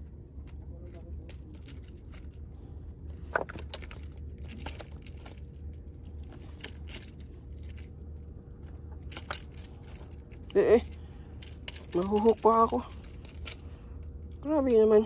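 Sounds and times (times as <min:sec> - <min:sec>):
light clicks and metallic rattles: 0:00.0 - 0:15.0
steady low rumble: 0:00.0 - 0:15.0.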